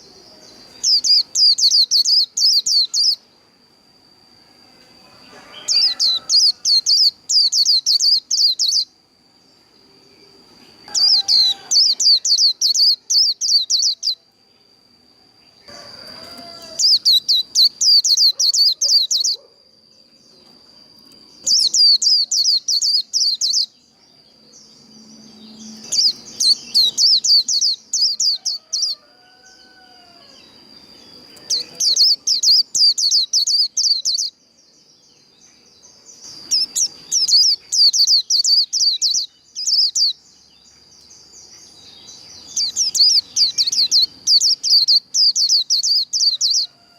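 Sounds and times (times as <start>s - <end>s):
bird twittering song: 0.0s - 3.5s, 5.2s - 14.6s, 15.4s - 46.9s.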